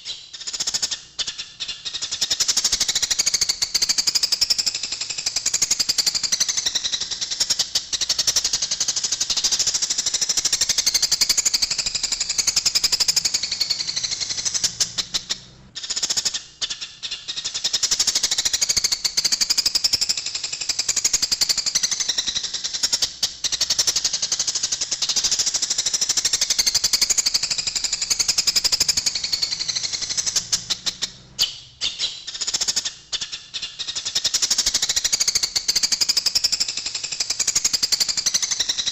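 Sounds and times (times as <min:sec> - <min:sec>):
sparrows chattering: 0:00.0 - 0:20.1, 0:20.7 - 0:36.6.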